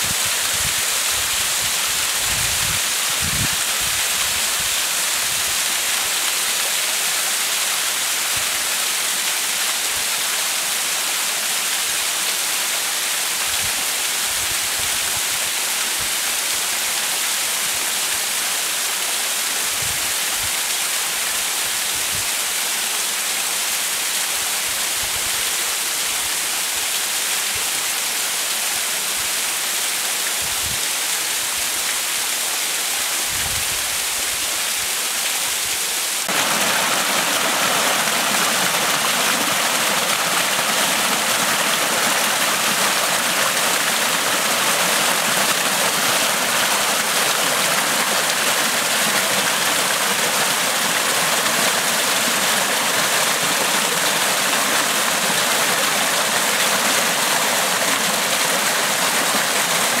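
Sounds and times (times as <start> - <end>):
stream splashing over stones: 0.0 - 24.2, 31.1 - 60.0
water falling down rock face: 0.0 - 60.0.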